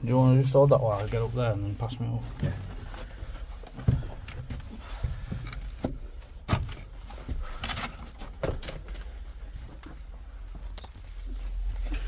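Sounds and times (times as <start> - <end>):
knocks and scrapes of climbing: 0.1 - 12.0.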